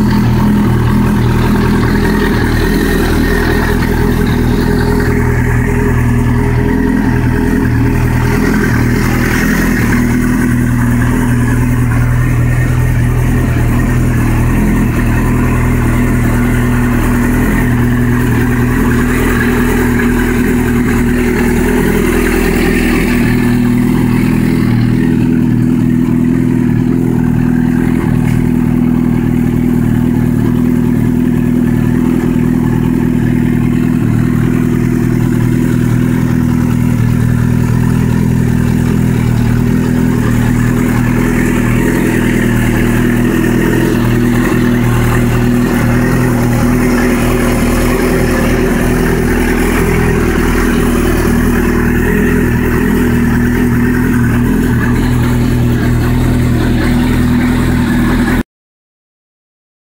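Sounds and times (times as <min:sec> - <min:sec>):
motorcycle engine idling: 0:00.0 - 0:58.4.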